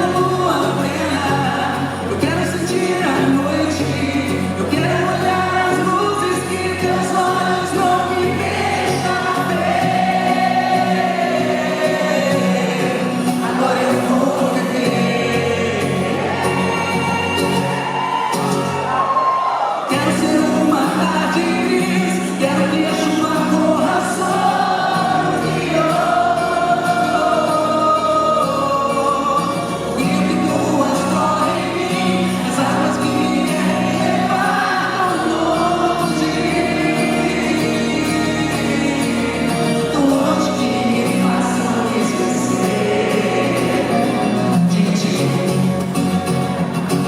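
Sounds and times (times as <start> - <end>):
live band with singing: 0.0 - 47.0.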